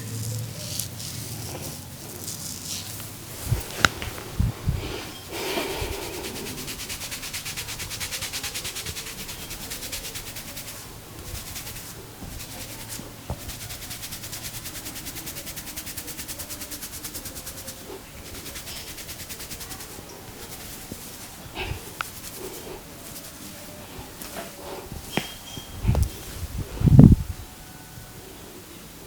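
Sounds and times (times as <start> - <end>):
hands rubbing scalp hair: 0.0 - 27.3.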